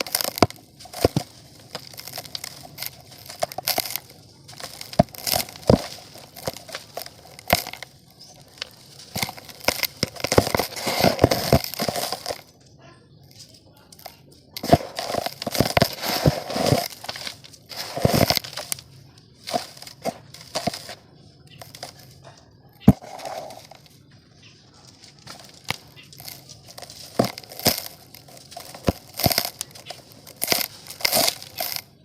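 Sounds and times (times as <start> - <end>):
dry mud crumbling and crunching: 0.0 - 32.0.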